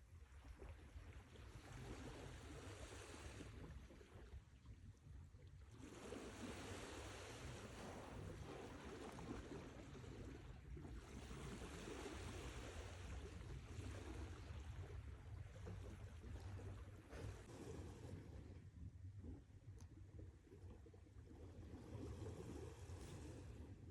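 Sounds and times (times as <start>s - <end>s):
faint sea waves breaking: 0.2s - 4.8s, 5.5s - 23.9s.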